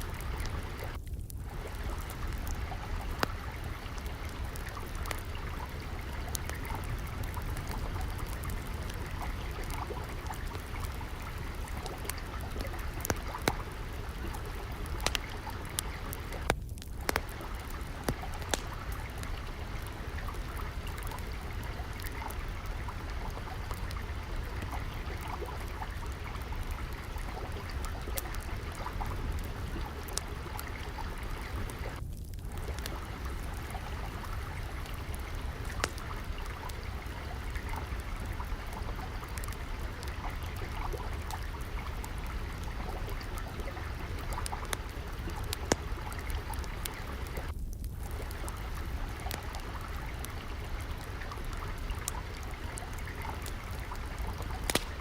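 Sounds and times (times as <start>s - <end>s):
flowing water: 0.0s - 55.0s
wood fire crackling: 0.0s - 55.0s.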